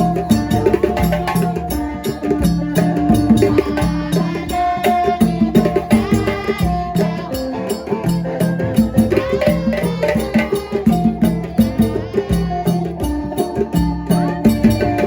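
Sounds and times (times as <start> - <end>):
music with drum rhythm: 0.0 - 15.0.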